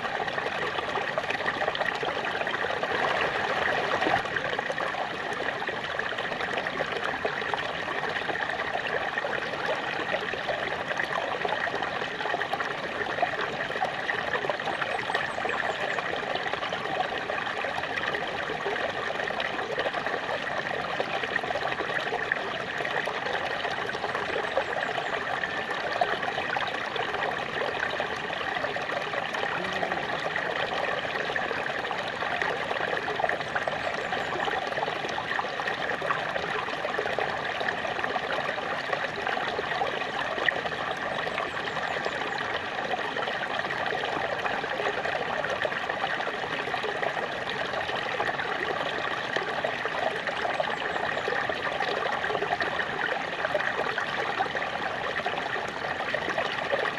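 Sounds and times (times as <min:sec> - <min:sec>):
small waterfall splashing: 0:00.0 - 0:56.9.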